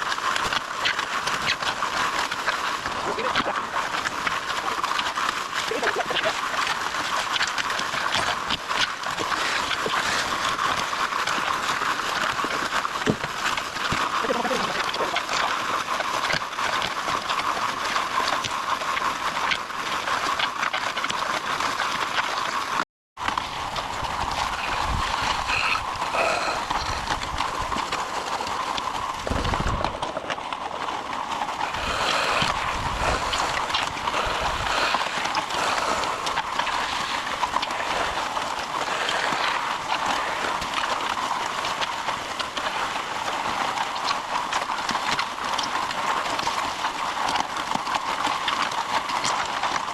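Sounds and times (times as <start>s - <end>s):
concrete mixer rattling: 0.0s - 49.9s.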